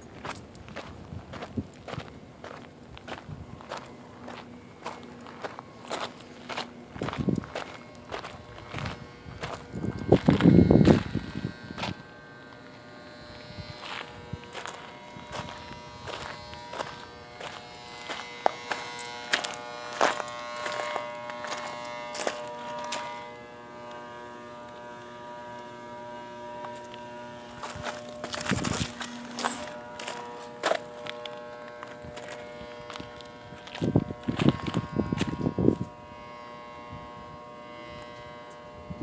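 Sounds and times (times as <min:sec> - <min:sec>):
electrical buzz: 0:00.0 - 0:39.0.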